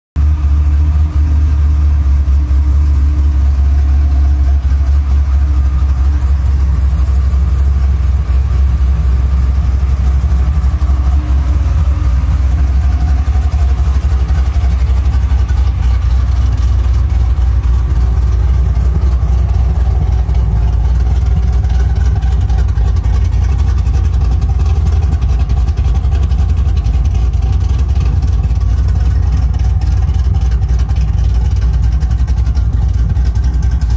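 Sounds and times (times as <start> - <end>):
loud choppy engine idling: 0.2 - 33.9.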